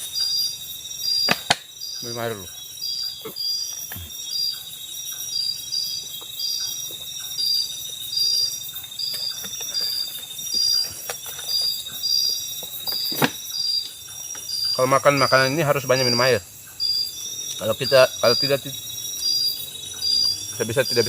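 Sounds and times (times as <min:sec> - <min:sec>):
high-pitched insect trill: 0:00.0 - 0:21.0
pulsed insect chirp: 0:00.0 - 0:21.0.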